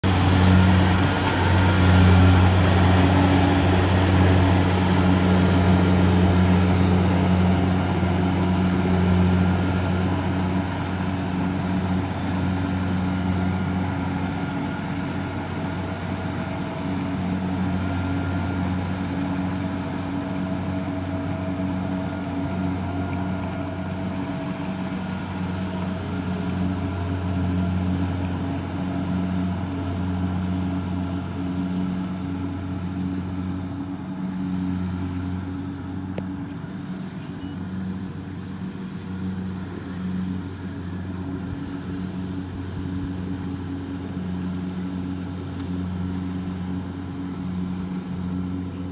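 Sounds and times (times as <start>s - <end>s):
combine harvester engine droning: 0.0s - 48.9s.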